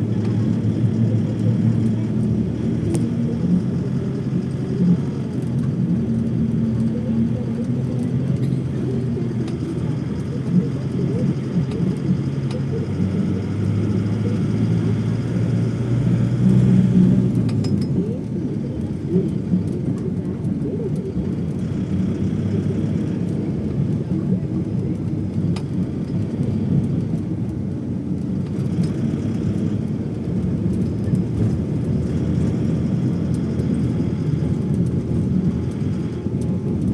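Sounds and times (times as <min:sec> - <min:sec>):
engine hum: 0:00.0 - 0:36.9
low vehicle rumble: 0:00.0 - 0:36.9.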